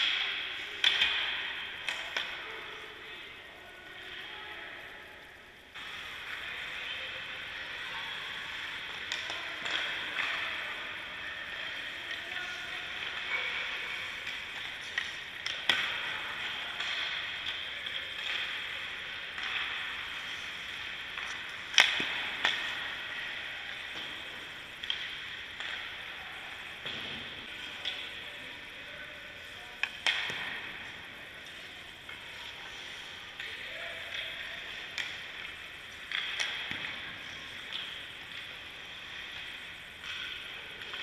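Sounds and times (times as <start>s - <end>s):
hockey sticks shooting pucks: 0.0s - 2.4s, 5.8s - 28.6s, 29.4s - 41.0s.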